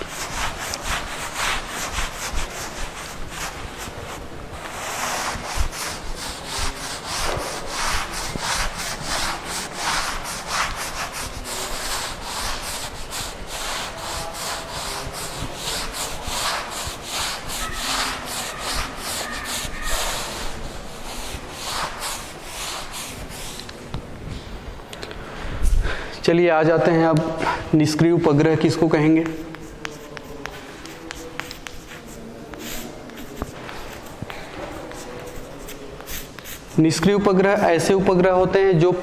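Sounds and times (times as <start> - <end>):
eraser scrubbing a blackboard: 0.0 - 24.0, 27.8 - 37.8.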